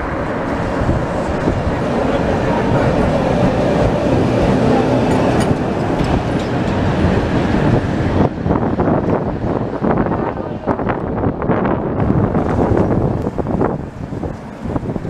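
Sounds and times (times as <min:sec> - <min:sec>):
steady hum: 0:00.0 - 0:15.0
tram wheels rolling on rails: 0:00.0 - 0:15.0
wind gusting on microphone: 0:00.0 - 0:15.0.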